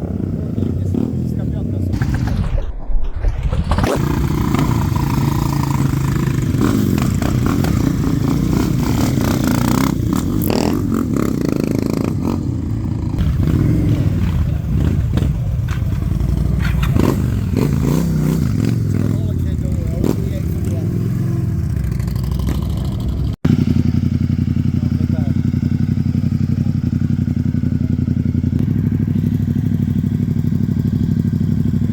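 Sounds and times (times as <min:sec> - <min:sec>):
motorcycle engine running: 0:00.0 - 0:02.3, 0:03.6 - 0:31.9.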